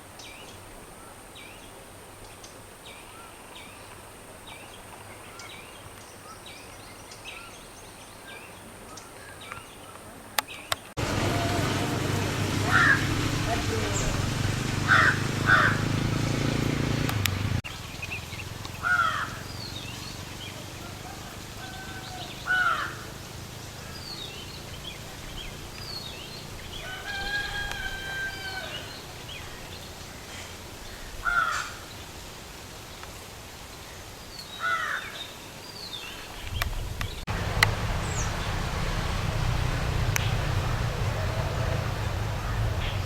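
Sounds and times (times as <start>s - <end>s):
birds calling: 5.2s - 32.2s, 33.8s - 43.0s.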